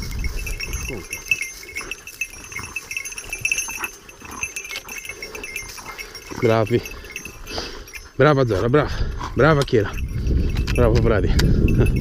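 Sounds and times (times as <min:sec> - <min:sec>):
rustling in dry scrub: 0:00.0 - 0:10.6
small bells jingling: 0:00.0 - 0:12.0.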